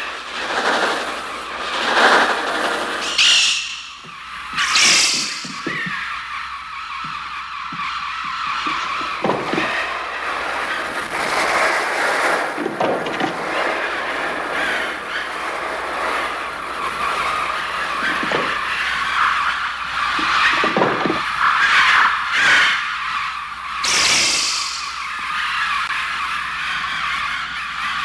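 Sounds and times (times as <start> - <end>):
electronic shrill bird cries: 3.0 - 28.0.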